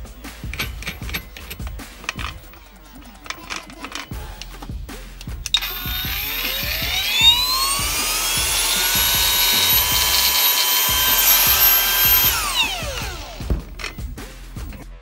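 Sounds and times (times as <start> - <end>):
angle grinder whining: 0.4 - 14.8
clicks: 0.4 - 14.9.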